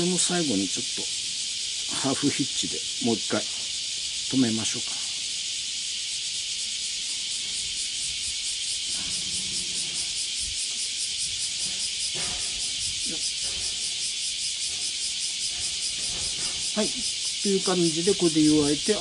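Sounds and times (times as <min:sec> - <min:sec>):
pulsing insect chorus: 0:00.0 - 0:19.0.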